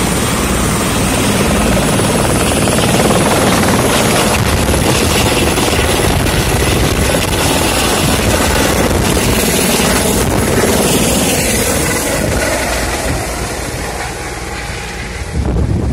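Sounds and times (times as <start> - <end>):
helicopter lifting off: 0.0 - 15.9.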